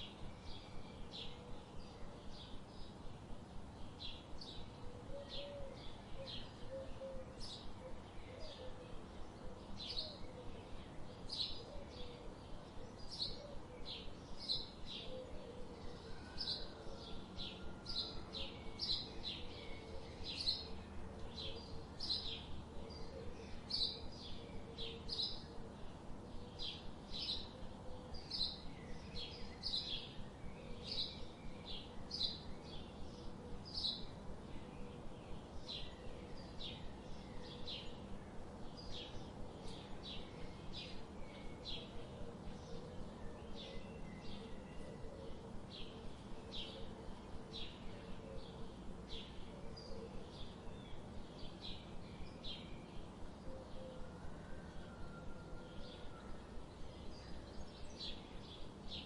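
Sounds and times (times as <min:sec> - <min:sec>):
faint steady hum: 0:00.0 - 0:59.0
bird chirping: 0:03.8 - 0:59.0.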